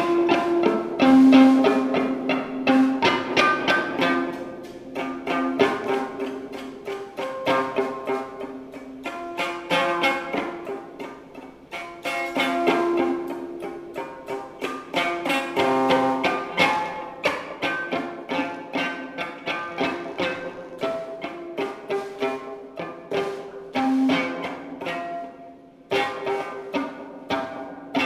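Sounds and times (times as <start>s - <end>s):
electric guitar picking: 0.0s - 28.0s.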